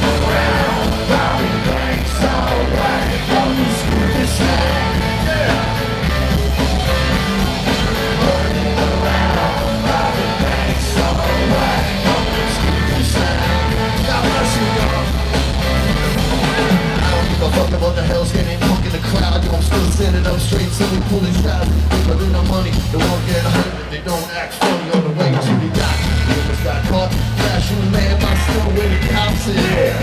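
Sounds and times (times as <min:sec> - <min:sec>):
person singing: 0:00.0 - 0:15.4, 0:16.6 - 0:30.0
bass line in held notes: 0:00.0 - 0:23.6, 0:25.8 - 0:30.0
live rock band playing: 0:00.0 - 0:30.0.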